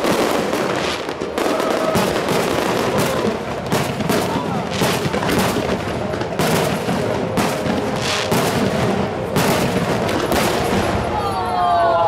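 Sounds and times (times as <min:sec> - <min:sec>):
continuous din: 0:00.0 - 0:12.0.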